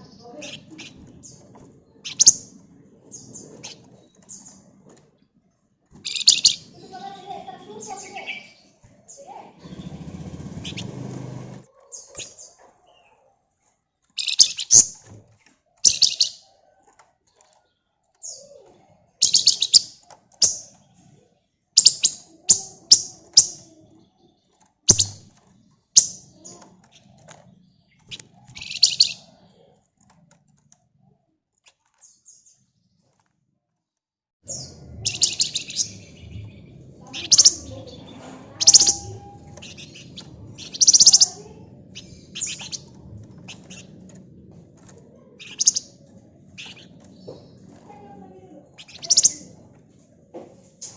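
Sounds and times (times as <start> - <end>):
bird chirping trills: 0.0 - 4.8, 6.0 - 13.2, 14.1 - 15.1, 15.7 - 16.8, 17.6 - 29.8, 34.5 - 49.8.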